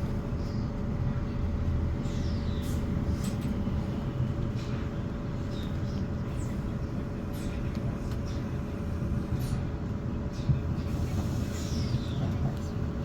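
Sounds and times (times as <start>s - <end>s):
constant hum: 0.0s - 13.0s
train wheels rumbling on track: 0.0s - 13.0s.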